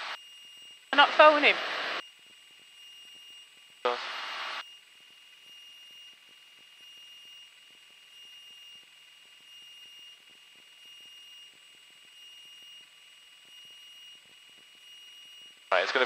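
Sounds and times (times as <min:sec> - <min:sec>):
high electronic whine: 0:00.0 - 0:16.0
pulsing electronic tone: 0:00.0 - 0:16.0.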